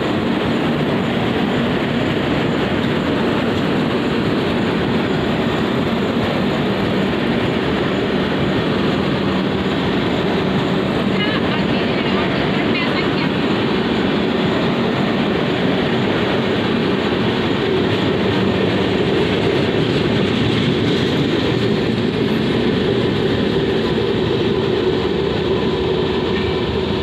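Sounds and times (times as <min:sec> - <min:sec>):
train wheels on rails: 0:00.0 - 0:27.0.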